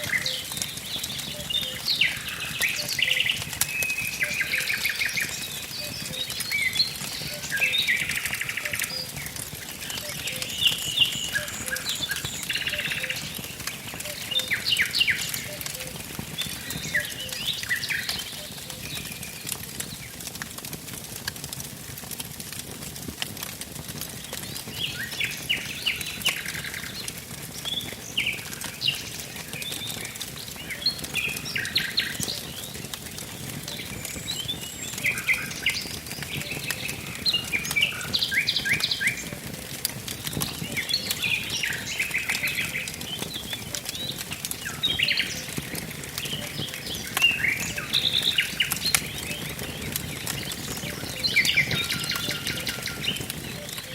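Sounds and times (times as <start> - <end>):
songbirds singing: 0.0 - 20.4, 24.0 - 53.9
wood fire crackling and popping: 0.0 - 53.9.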